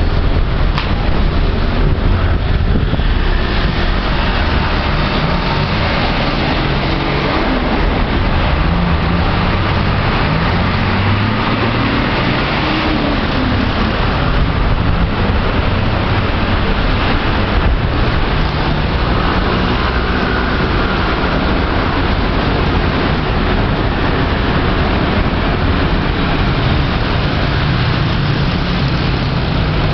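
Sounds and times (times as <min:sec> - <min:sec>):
buses passing: 0:00.0 - 0:29.9
cars passing: 0:00.0 - 0:29.9.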